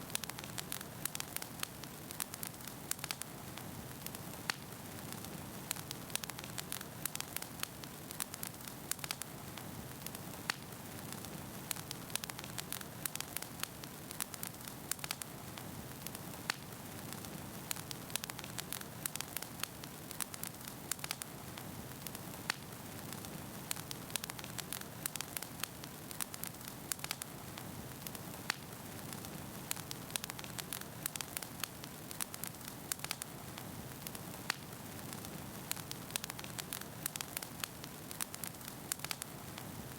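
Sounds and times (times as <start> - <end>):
wood fire crackling and popping: 0.0 - 39.9
fire hissing: 0.1 - 39.9.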